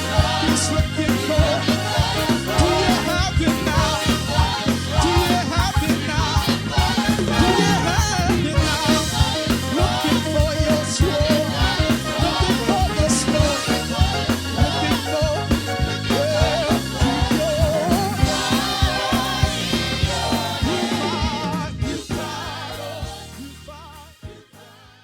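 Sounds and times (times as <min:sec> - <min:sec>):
band with drums and bass: 0:00.0 - 0:24.6.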